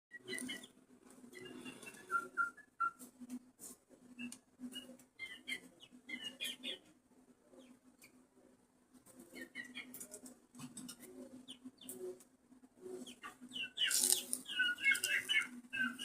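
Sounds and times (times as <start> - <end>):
chick peeping: 0.1 - 16.0.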